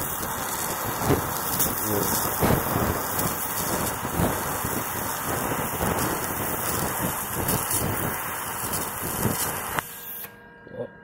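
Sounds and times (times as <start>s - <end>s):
welding arc hissing and crackling: 0.0s - 10.3s.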